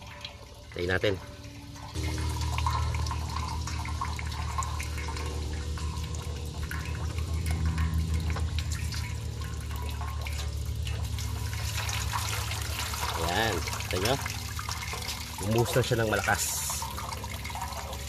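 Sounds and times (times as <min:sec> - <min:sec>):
steady low hum: 0:00.0 - 0:18.0
water dripping: 0:00.0 - 0:18.0.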